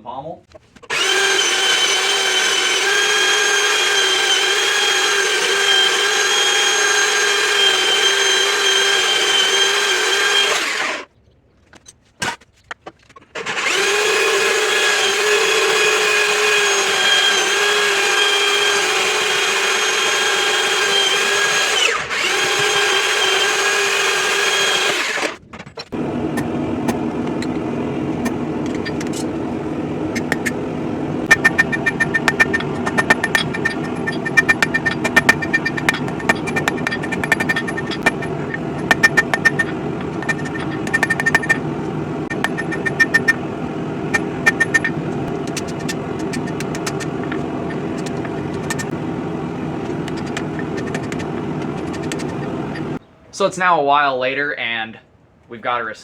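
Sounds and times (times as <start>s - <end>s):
power tool cutting steel: 0.9s - 11.1s, 13.4s - 25.4s, 26.0s - 53.0s.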